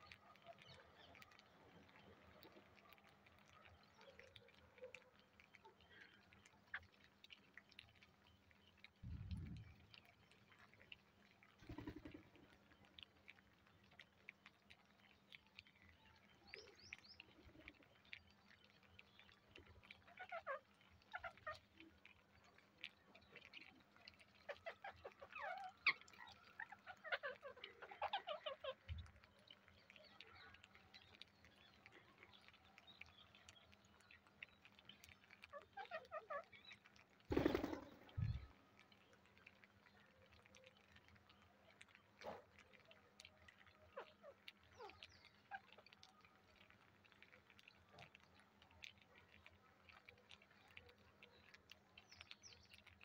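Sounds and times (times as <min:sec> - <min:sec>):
beaks pecking seed: 0:00.0 - 0:53.0.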